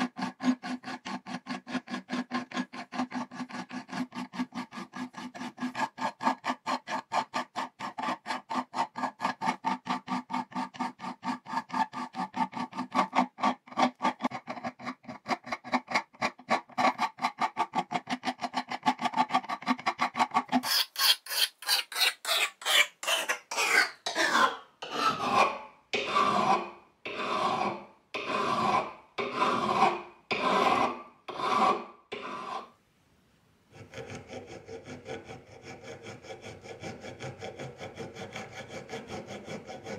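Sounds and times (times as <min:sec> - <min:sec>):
file rasping on metal: 0:00.0 - 0:32.8, 0:33.7 - 0:39.9.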